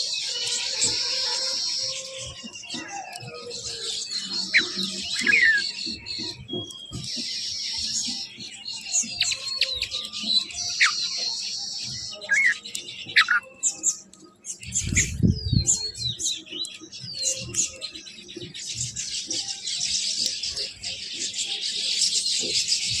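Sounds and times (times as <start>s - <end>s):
birds chirping and whistling: 0.0s - 23.0s.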